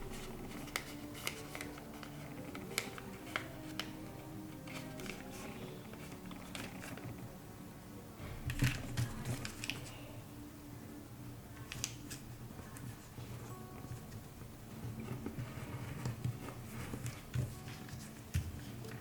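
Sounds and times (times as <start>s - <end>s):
paper crinkling and folding: 0.0s - 7.2s, 8.3s - 10.2s, 11.6s - 19.0s.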